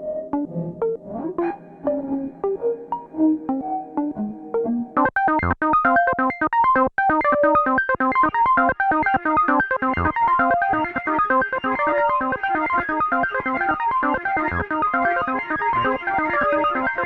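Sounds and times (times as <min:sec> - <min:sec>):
synthesizer repeated pitched notes: 0:00.3 - 0:17.0.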